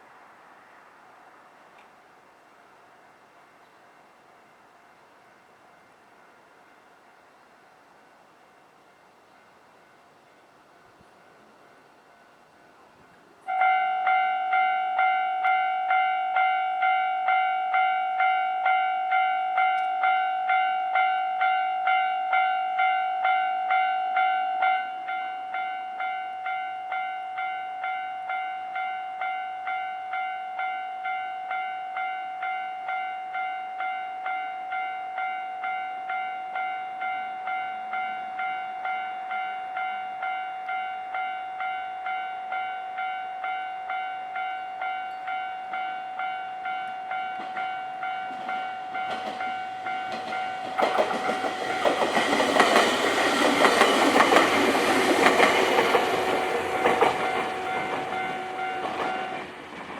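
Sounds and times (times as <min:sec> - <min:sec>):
level-crossing warning bell: 0:08.6 - 0:59.9.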